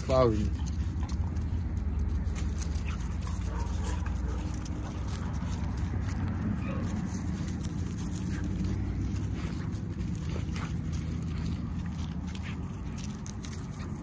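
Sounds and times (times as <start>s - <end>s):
puppies scuffling in dry leaves: 0.0s - 14.0s.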